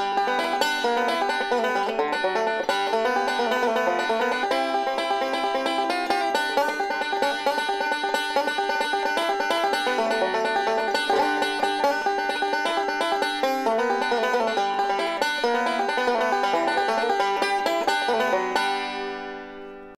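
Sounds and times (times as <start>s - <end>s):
banjo picking bluegrass: 0.0s - 20.0s.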